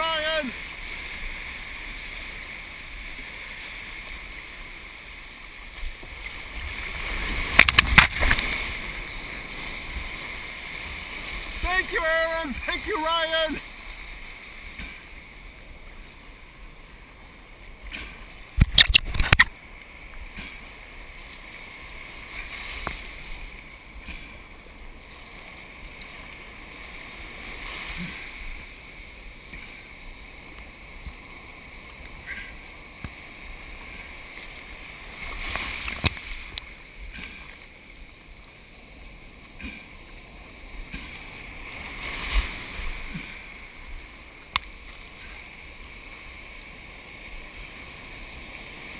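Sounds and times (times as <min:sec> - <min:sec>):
surf washing around kayak: 0:00.0 - 0:48.9.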